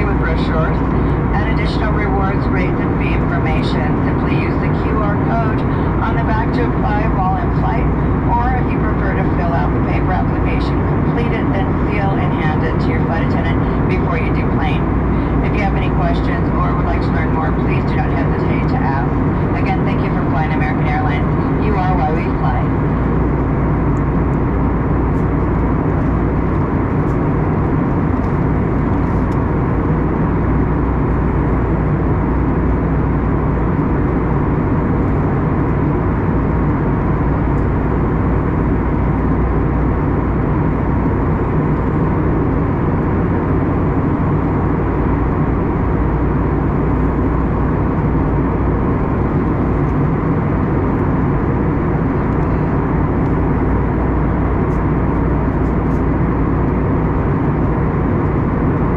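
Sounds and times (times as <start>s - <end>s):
aircraft cabin engine roar: 0.0s - 58.9s.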